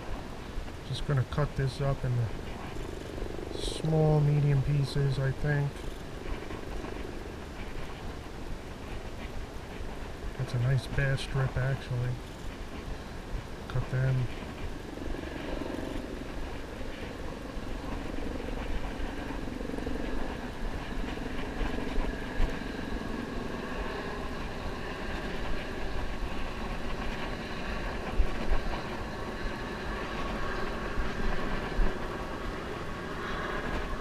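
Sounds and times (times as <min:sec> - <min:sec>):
distant traffic rumble: 0:00.0 - 0:34.0.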